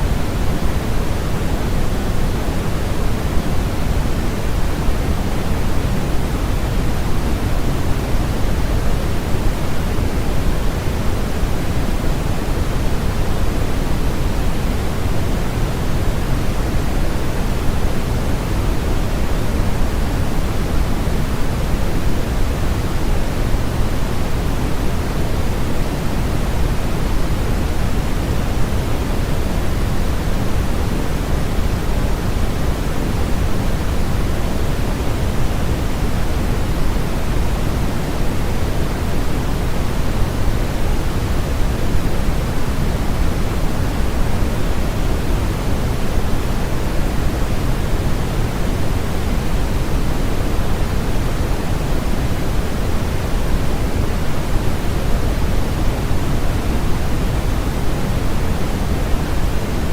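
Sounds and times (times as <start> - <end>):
deep steady hiss: 0.0 - 59.9.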